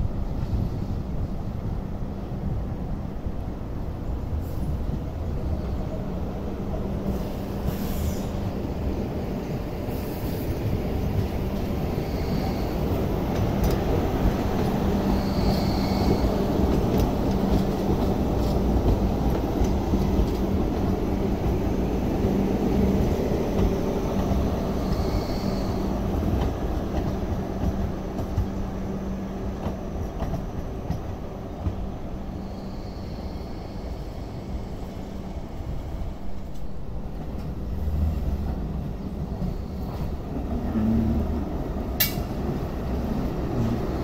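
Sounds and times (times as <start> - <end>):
train rumbling over rails: 0.0 - 44.0.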